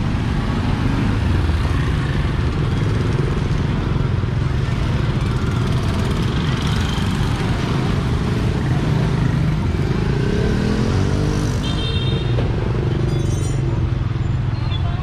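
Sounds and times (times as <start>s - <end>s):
motorbike and scooter traffic: 0.0s - 15.0s.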